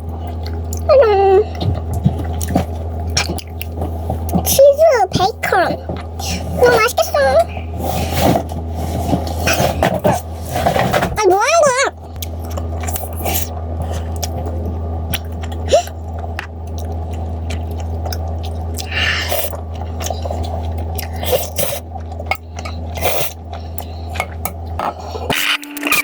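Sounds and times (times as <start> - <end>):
person chewing and eating: 0.0 - 11.1, 11.9 - 26.0
steady low hum: 0.0 - 26.0.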